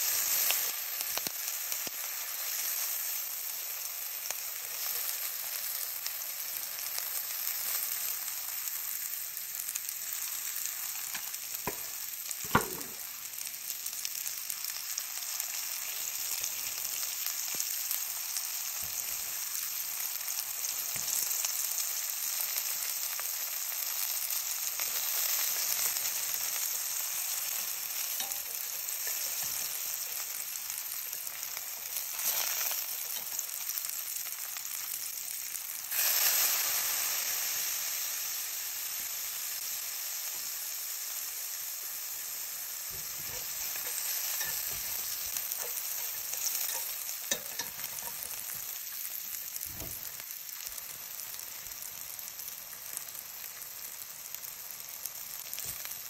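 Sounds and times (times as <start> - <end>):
mushrooms sizzling in butter: 0.0 - 56.0.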